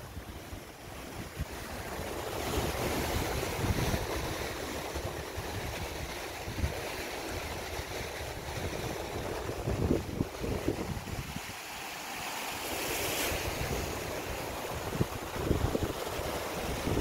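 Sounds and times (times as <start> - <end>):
wind buffeting microphone: 0.0 - 11.7, 13.3 - 17.0
waves breaking on rocks: 0.1 - 17.0.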